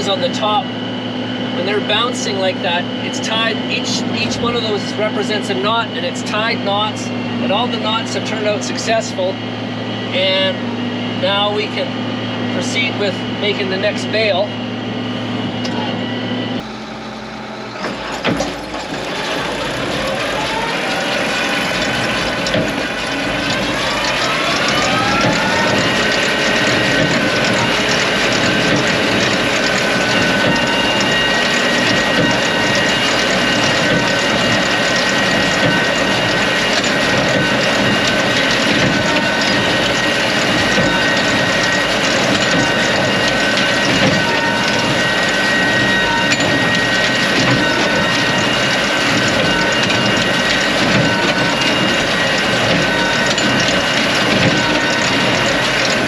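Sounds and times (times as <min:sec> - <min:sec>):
machinery whine: 0:00.0 - 0:56.0
baler gears clattering: 0:01.3 - 0:16.1, 0:17.7 - 0:56.0.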